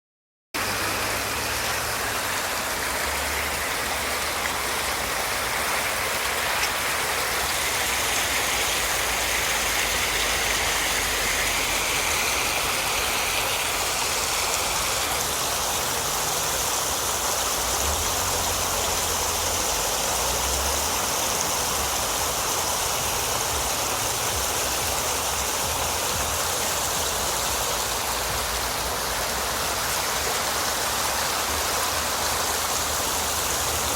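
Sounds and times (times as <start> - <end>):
stream rushing: 0.6 - 33.9.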